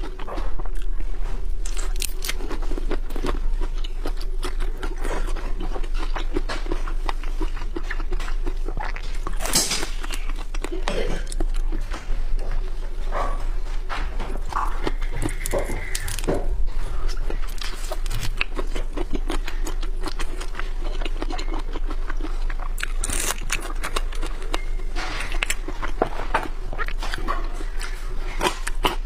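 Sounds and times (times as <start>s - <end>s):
wet smacking chewing and crunching: 0.0s - 29.0s.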